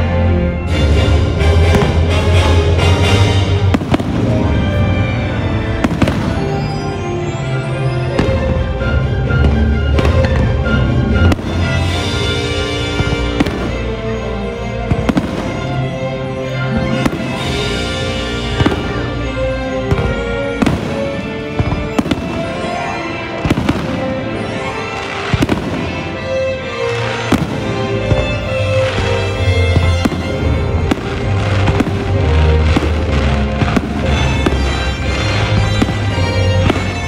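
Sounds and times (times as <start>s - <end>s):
loud show music: 0.0s - 37.0s
fireworks bursting with sharp bangs: 1.4s - 37.0s.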